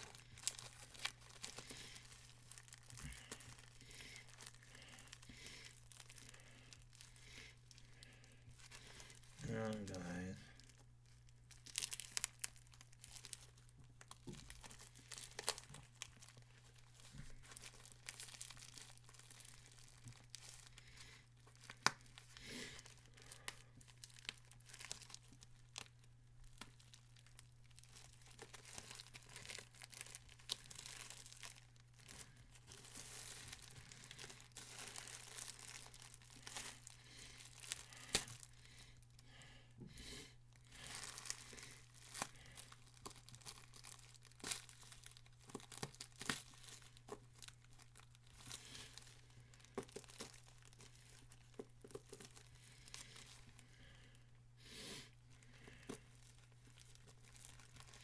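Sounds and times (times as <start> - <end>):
package rustling and tearing: 0.0 - 39.2, 40.2 - 54.2, 55.1 - 58.0.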